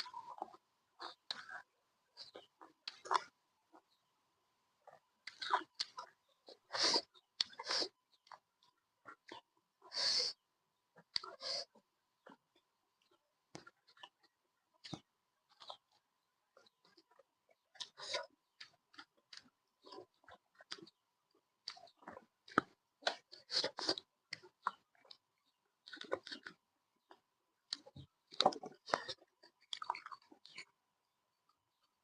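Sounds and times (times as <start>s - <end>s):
person chewing meat: 0.0s - 3.9s, 4.8s - 10.4s, 11.0s - 30.8s.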